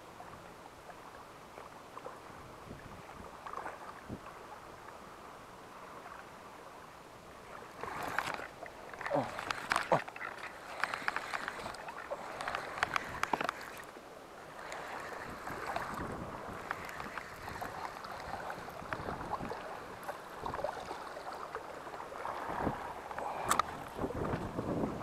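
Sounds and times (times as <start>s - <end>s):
sea water rushing: 0.0s - 25.0s
wind: 0.0s - 25.0s.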